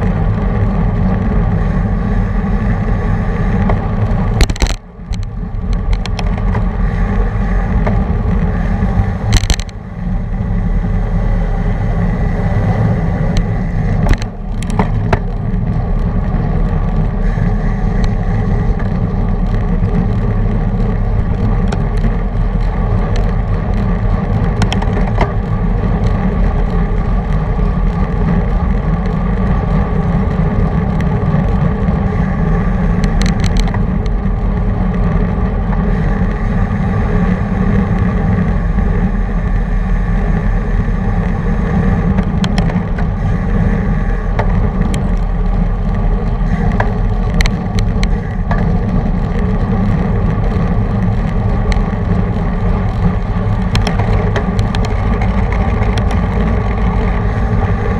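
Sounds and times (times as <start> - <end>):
road rumble: 0.0 - 57.9
wind noise: 0.0 - 57.9.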